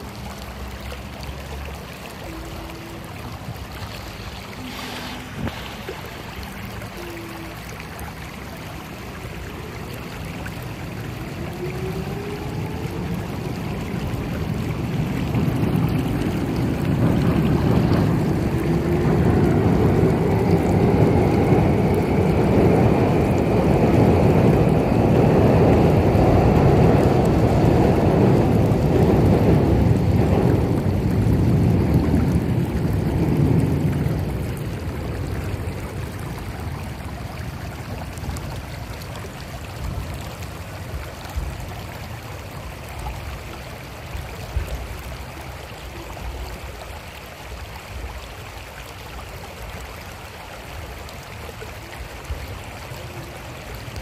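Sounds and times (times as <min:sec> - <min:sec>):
creek babbling over stones: 0:00.0 - 0:54.0.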